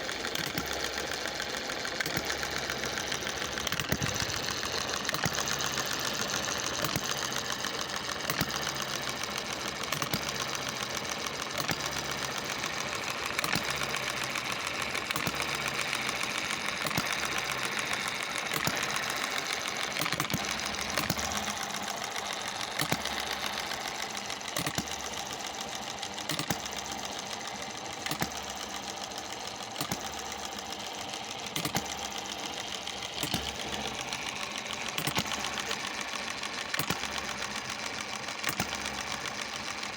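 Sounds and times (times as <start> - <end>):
engine mechanical clatter: 0.0 - 39.9.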